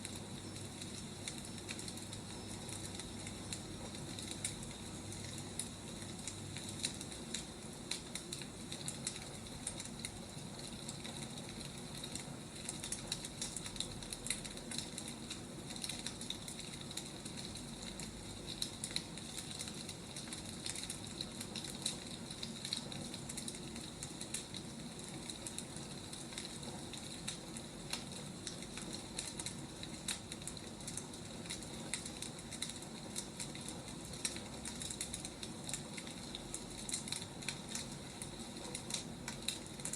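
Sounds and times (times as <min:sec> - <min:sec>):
wood crackling: 0:00.0 - 0:39.9.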